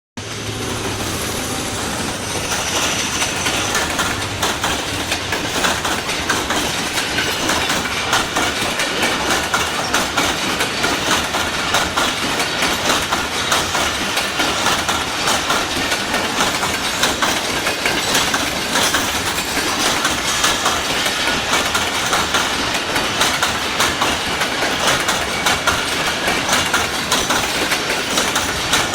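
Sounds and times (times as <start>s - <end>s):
train wheels clacking on track: 0.2s - 28.9s.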